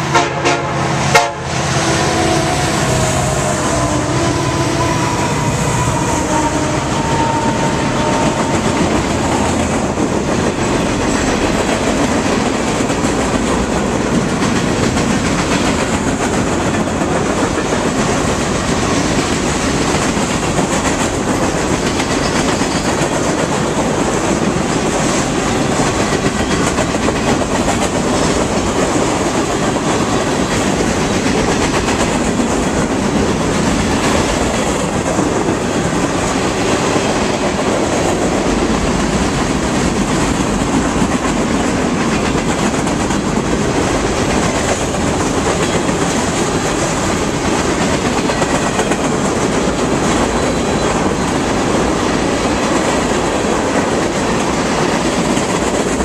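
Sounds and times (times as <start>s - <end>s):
freight train wheels rumbling on rail: 0.0s - 56.0s
wheels clickety-clack on rail joints: 2.3s - 56.0s.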